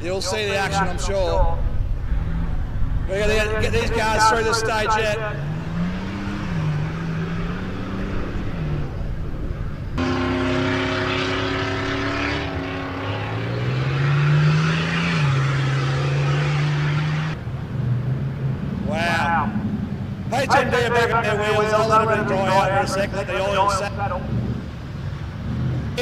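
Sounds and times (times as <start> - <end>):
truck engines revving: 0.0 - 26.0.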